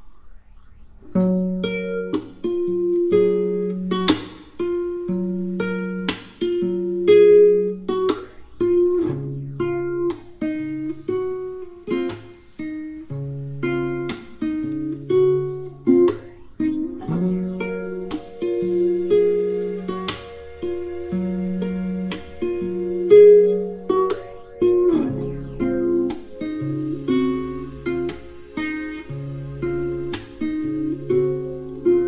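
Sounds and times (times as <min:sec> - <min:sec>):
plucked guitar music: 0:01.1 - 0:32.0.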